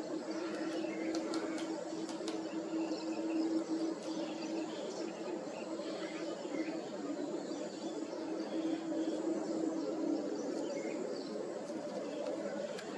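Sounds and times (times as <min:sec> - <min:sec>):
low background hum: 0:00.0 - 0:12.9.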